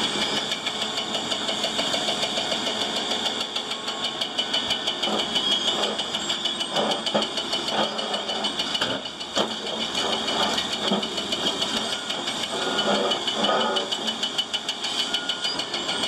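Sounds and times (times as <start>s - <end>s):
heavy machine engine rattling: 0.0s - 16.0s.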